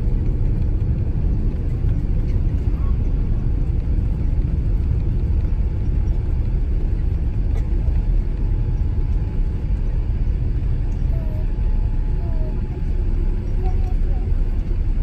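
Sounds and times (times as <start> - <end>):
airplane cabin rumble: 0.0 - 15.0.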